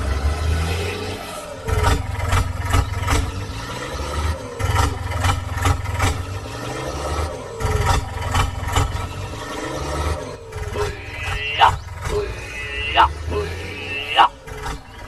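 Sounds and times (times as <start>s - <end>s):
small tractor engine rumble: 1.2s - 15.0s.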